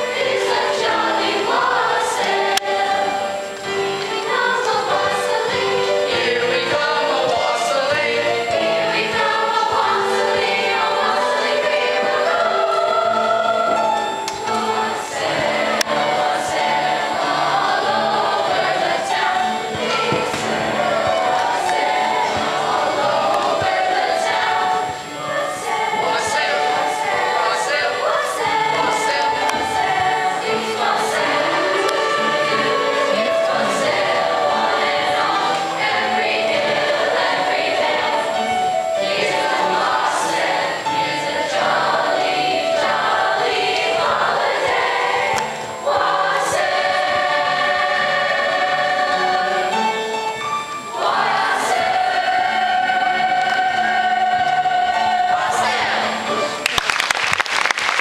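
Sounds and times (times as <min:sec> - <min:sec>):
choir singing held chords: 0:00.0 - 0:58.0.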